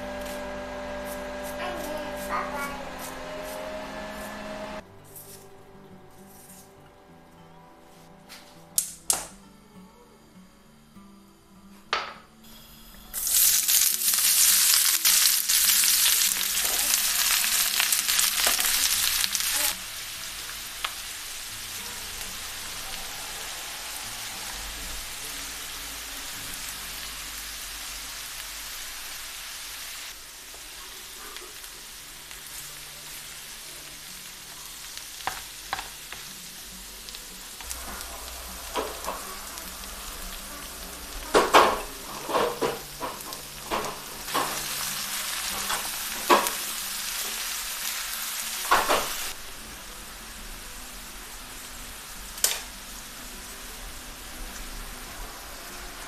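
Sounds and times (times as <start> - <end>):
onions sizzling in oil: 0.0 - 5.3, 12.4 - 56.0.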